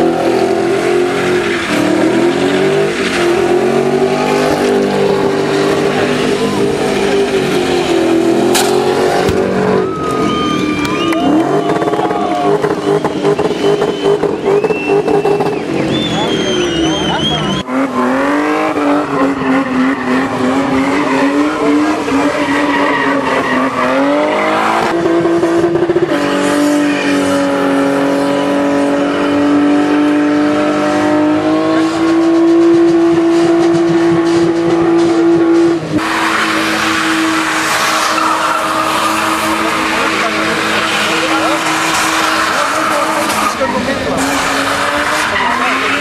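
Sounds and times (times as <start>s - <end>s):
car engines revving high: 0.0s - 46.0s
tyres spinning on asphalt: 0.0s - 46.0s.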